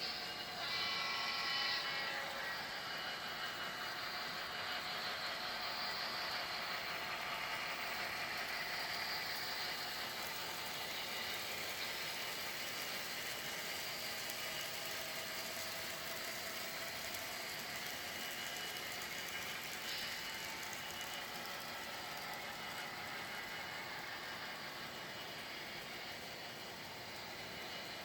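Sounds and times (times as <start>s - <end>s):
train wheels rattling: 0.0s - 28.0s.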